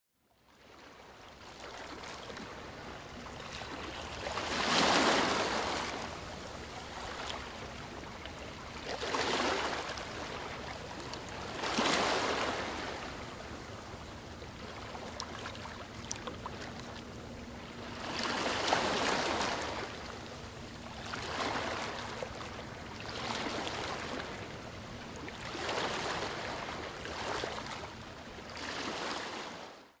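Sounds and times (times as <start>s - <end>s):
sea waves washing ashore: 0.8s - 29.9s.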